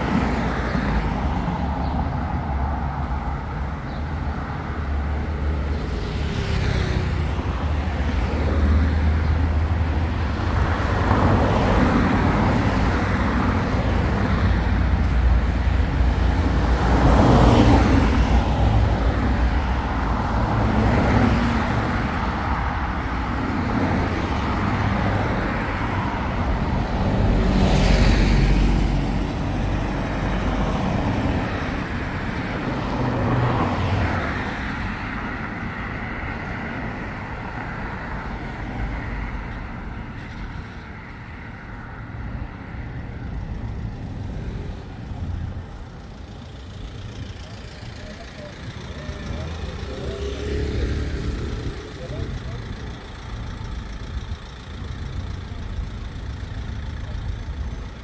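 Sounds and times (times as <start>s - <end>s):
cars passing by: 0.0s - 58.0s.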